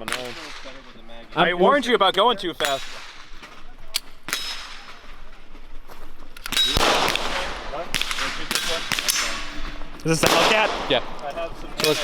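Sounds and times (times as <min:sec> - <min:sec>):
gunshots: 0:00.0 - 0:05.3, 0:06.4 - 0:12.0.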